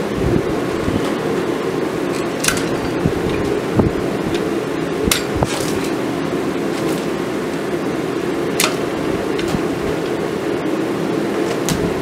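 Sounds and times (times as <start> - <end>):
workshop machinery drone: 0.0 - 12.0.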